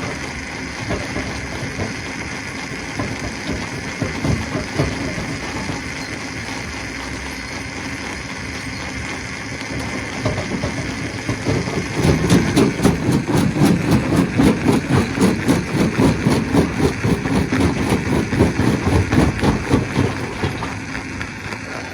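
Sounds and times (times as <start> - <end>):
stone crusher rhythmic pounding: 0.0 - 21.6.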